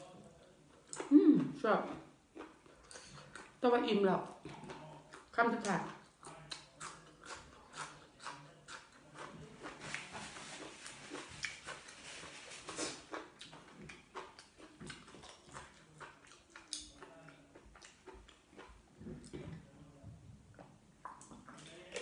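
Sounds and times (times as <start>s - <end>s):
chewing raw vegetable: 0.0s - 3.6s, 4.2s - 22.0s.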